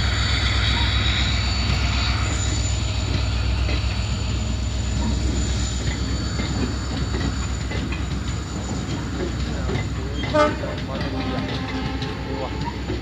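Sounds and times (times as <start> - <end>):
train running on rails: 0.0 - 13.0
train wheels clicking over rail joints: 0.0 - 13.0.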